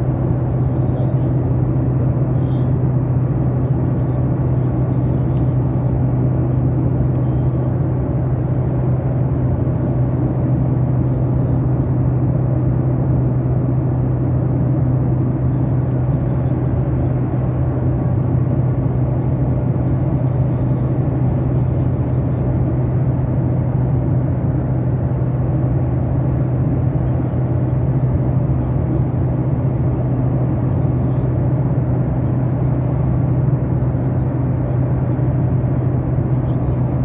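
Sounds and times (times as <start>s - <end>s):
jet engines droning: 0.0s - 37.0s.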